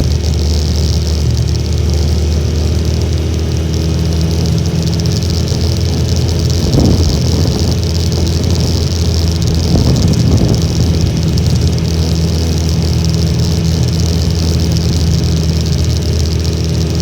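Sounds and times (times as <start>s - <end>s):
small motorcycle engine running: 0.0s - 17.0s
wind buffeting microphone: 0.0s - 17.0s.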